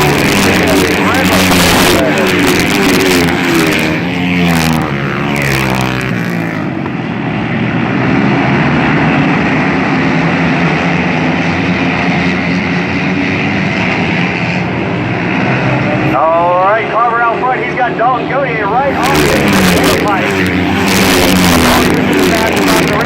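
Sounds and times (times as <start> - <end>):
racing motorcycle engines: 0.0 - 23.0.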